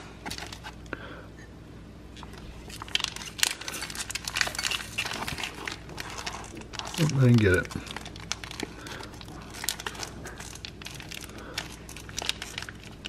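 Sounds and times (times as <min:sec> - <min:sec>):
plastic package crinkling: 0:00.0 - 0:00.9, 0:02.2 - 0:13.0.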